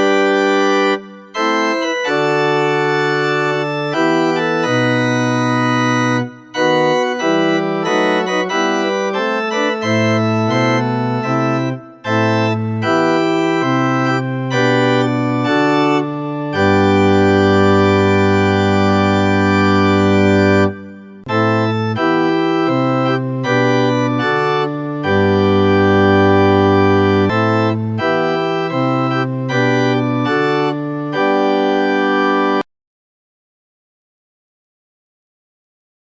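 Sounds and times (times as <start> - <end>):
organ playing a hymn: 0.0 - 32.7.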